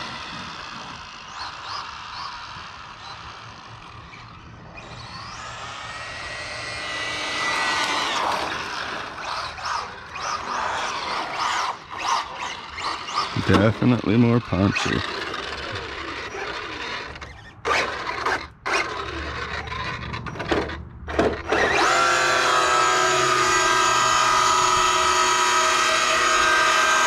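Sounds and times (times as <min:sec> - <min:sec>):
rc truck motor whine: 0:00.0 - 0:27.0.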